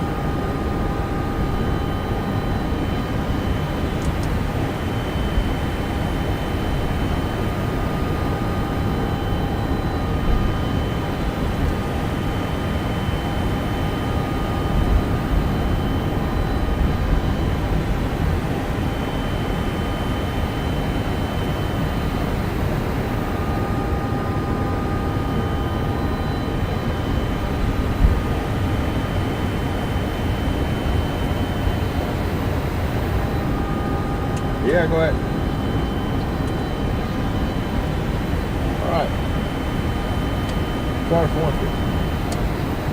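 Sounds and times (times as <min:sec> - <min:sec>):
faint whining tones: 0:00.0 - 0:42.9.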